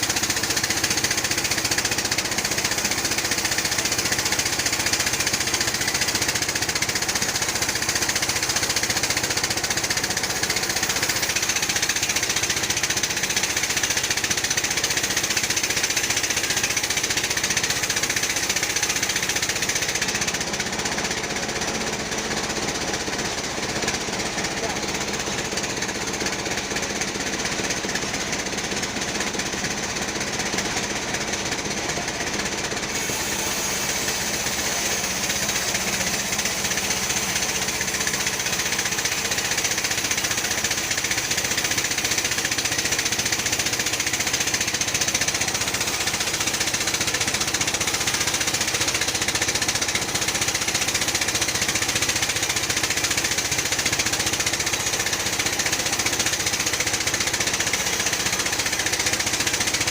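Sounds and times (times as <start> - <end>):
bandsaw mill sawing a log: 0.0 - 59.9.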